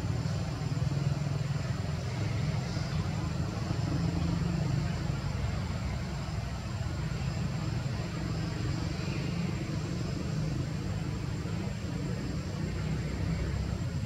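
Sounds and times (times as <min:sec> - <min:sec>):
faint hiss: 0:00.0 - 0:14.0
low outdoor rumble: 0:00.0 - 0:14.0
thin steady high tone: 0:00.0 - 0:14.0.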